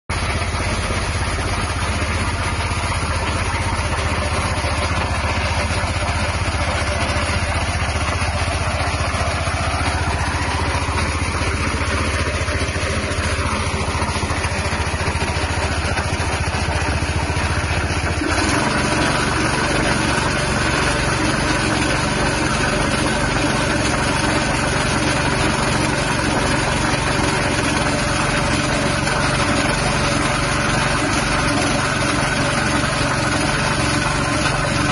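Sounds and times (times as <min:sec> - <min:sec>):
petrol engine running: 0:00.1 - 0:34.9.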